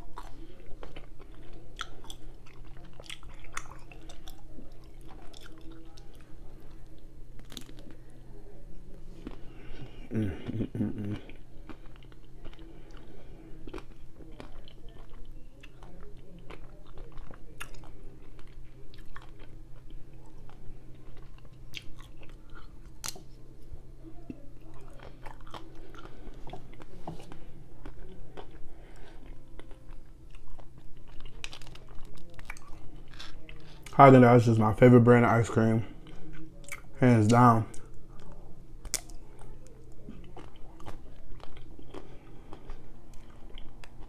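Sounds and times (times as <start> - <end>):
chewing ice cream bar: 0.0 - 34.2, 35.8 - 44.0
low steady hum: 0.0 - 44.0.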